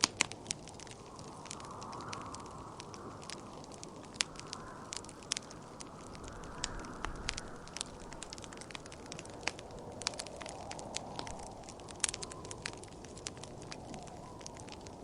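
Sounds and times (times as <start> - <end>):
rushing wind: 0.0 - 15.0
wood fire crackling: 0.0 - 15.0.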